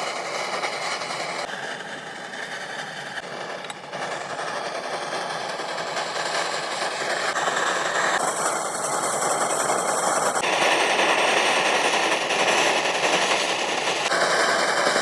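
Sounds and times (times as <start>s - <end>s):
small motorised tool rattling: 0.0s - 15.0s.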